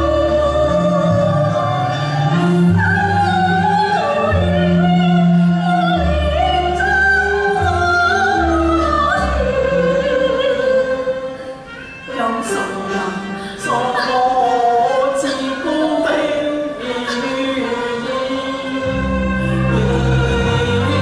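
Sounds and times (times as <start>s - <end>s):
instrumental accompaniment: 0.0s - 21.0s
opera singing: 0.0s - 21.0s.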